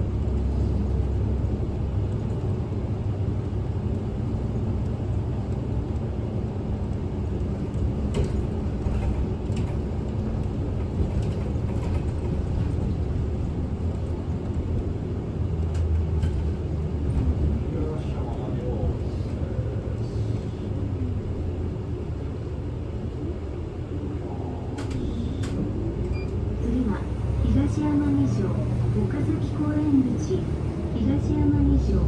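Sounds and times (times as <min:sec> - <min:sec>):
bus engine hum and road rumble: 0:00.0 - 0:32.0.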